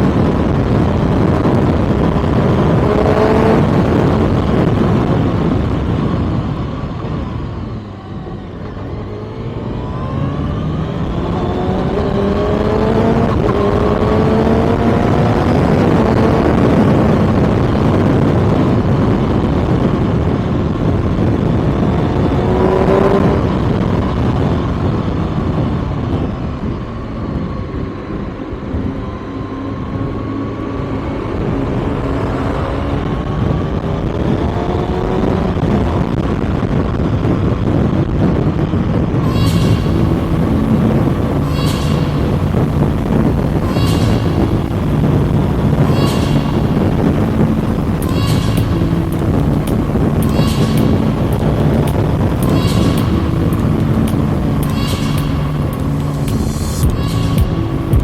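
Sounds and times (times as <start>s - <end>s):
motorcycle engine revving: 0.0s - 36.4s, 37.4s - 58.0s
rush of noise: 0.0s - 58.0s.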